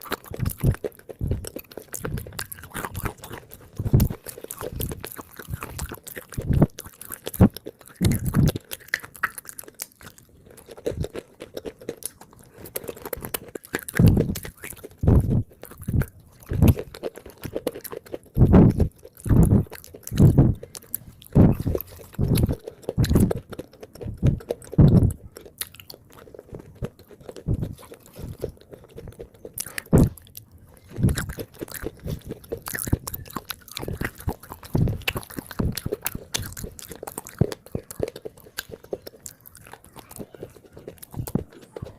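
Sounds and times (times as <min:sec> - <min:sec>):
chewing and crunching clay: 0:00.0 - 0:41.9.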